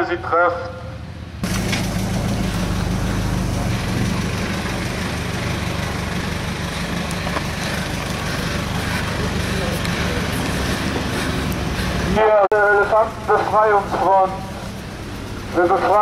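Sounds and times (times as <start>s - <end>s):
traffic hiss: 0.0s - 16.0s
vehicle engine running: 1.2s - 16.0s.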